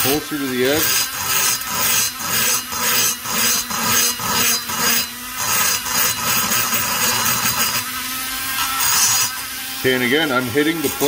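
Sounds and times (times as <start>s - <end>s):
rotary grinder grinding metal: 0.0s - 11.0s.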